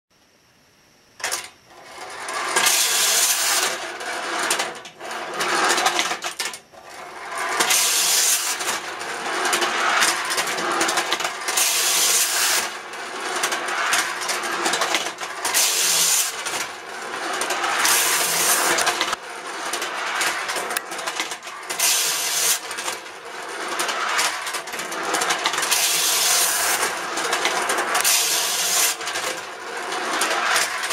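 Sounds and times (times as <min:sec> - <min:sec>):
clockwork toy bus motors whirring: 0:01.2 - 0:30.9.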